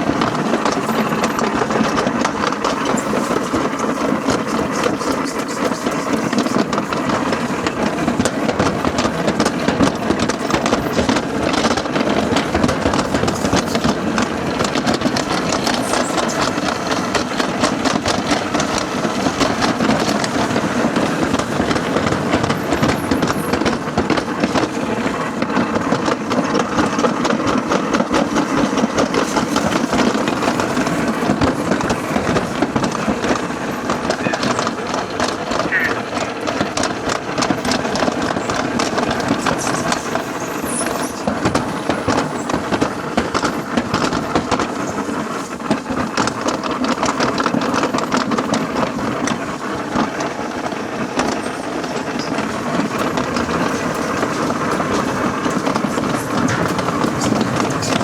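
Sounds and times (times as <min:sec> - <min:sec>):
sled rolling down metal track: 0:00.0 - 0:58.0
wheels clacking over track joints: 0:00.0 - 0:58.0.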